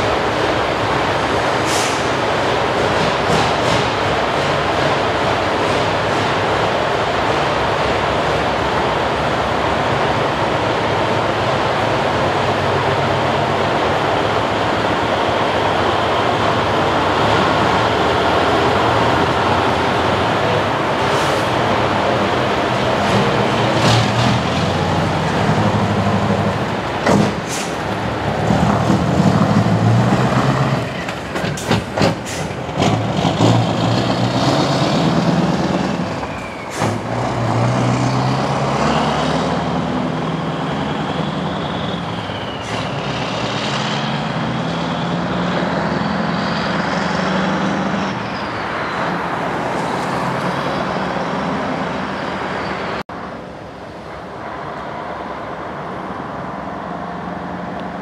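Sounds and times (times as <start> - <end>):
diesel truck accelerating: 0.0 - 58.0.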